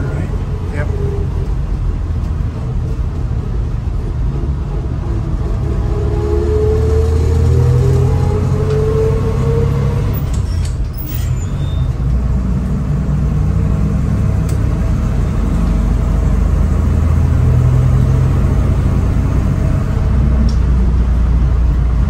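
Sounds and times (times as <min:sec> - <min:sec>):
truck engine running: 0:00.0 - 0:10.5, 0:12.0 - 0:22.0.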